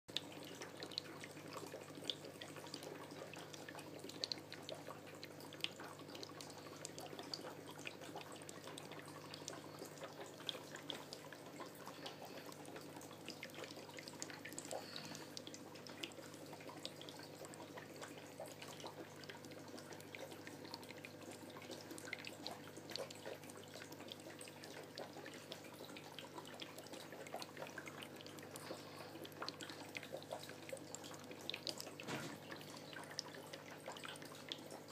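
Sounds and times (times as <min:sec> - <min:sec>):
small irregular ticks: 0:00.1 - 0:34.9
water trickling and dripping: 0:00.1 - 0:34.9.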